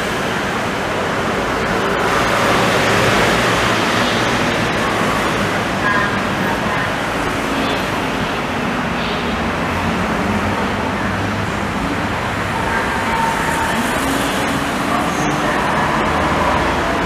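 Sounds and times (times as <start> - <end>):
tram rumbling on track: 0.0 - 17.0.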